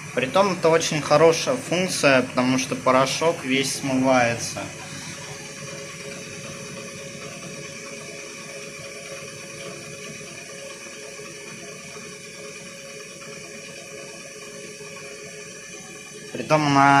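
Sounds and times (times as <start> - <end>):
washing machine drum whirring: 0.0 - 17.0.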